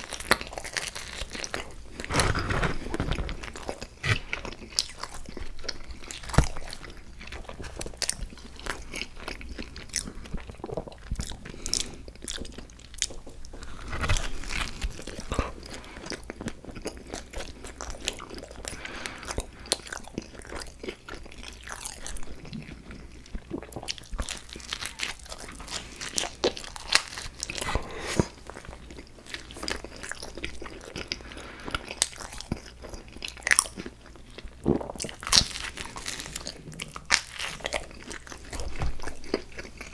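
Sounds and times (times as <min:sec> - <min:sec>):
person biting and chewing: 0:00.1 - 0:18.6, 0:23.5 - 0:34.0, 0:34.6 - 0:39.9.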